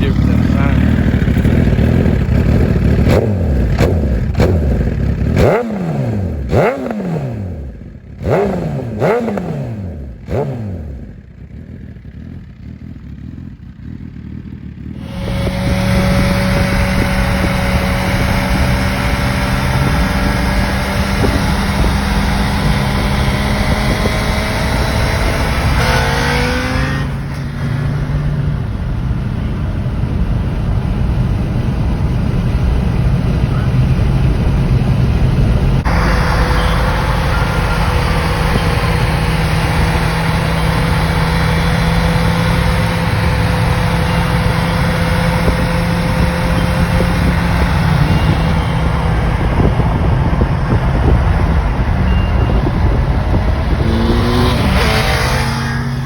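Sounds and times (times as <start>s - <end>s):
motorcycle engine revving: 0.0s - 56.0s
steady engine drone: 0.0s - 56.0s.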